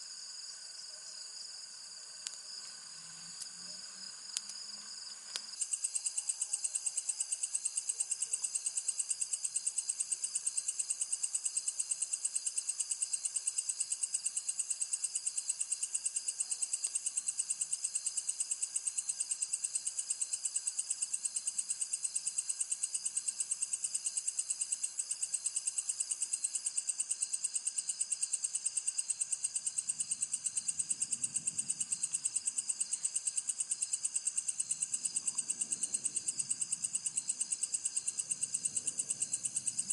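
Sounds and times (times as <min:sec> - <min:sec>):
insects calling in high-pitched chorus: 0:00.0 - 0:39.9.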